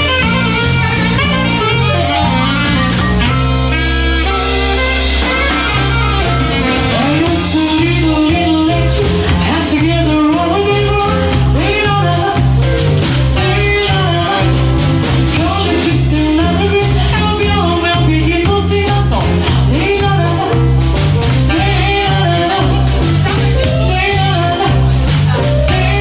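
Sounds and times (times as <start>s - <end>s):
bass line: 0.0s - 26.0s
drums: 0.0s - 26.0s
jazz melody line: 0.0s - 26.0s.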